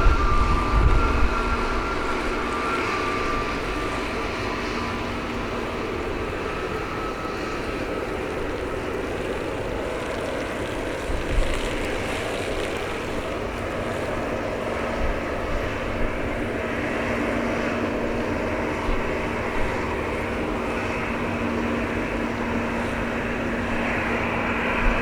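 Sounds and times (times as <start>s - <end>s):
faint steady whine: 0.0s - 25.0s
jet engines running: 0.0s - 25.0s.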